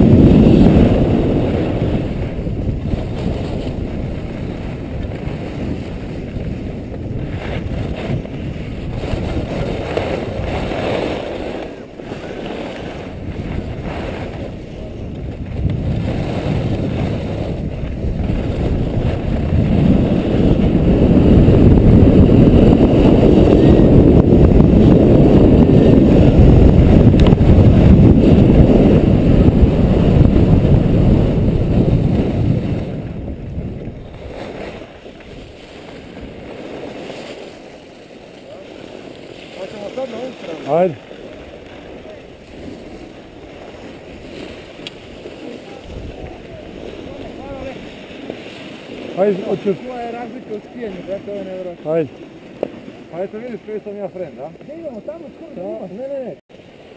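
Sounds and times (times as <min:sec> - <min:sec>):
skis rushing on packed snow: 0:00.0 - 0:56.9
wind buffeting microphone: 0:00.0 - 0:56.9.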